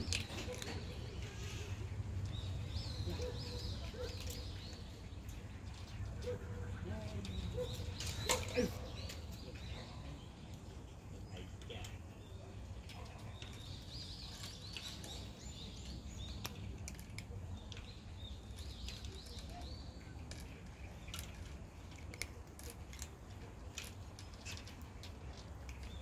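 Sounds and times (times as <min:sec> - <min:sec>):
cat chewing dry kibble: 0:00.0 - 0:26.0.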